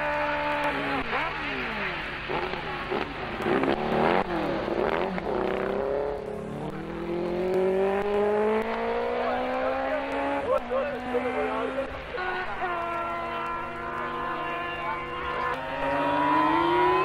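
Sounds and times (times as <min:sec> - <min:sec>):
racing motorcycle engine passing: 0:00.0 - 0:17.0.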